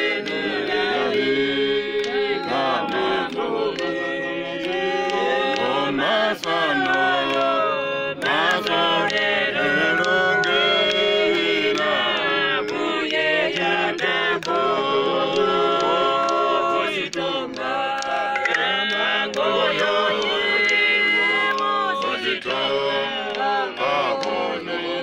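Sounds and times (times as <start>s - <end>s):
group singing a hymn: 0.0s - 25.0s.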